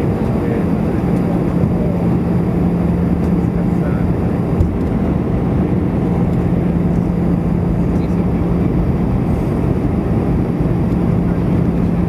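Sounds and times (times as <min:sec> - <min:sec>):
jet engine and airflow rush: 0:00.0 - 0:12.0
low cabin hum: 0:00.0 - 0:12.0.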